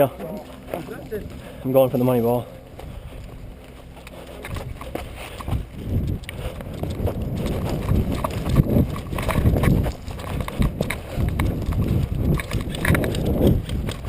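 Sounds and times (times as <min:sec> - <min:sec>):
running footsteps: 0:00.0 - 0:14.0.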